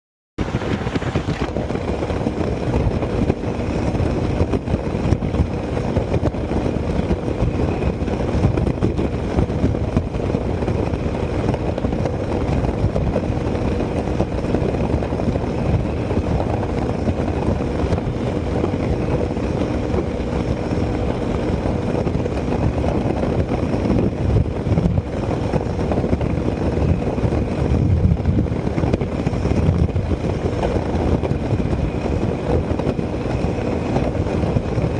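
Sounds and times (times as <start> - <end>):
motorcycle engine at high revs: 0.4 - 34.9
wind noise rushing: 0.4 - 34.9.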